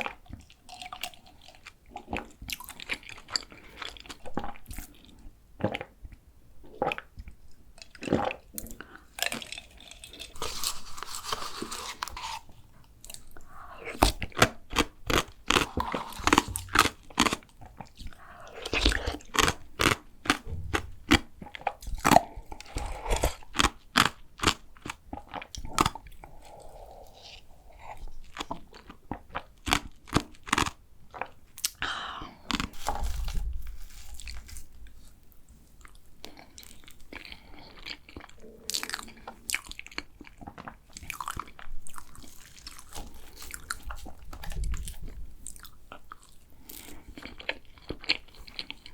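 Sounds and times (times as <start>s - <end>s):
crunching and chewing pastry: 0.0s - 48.9s.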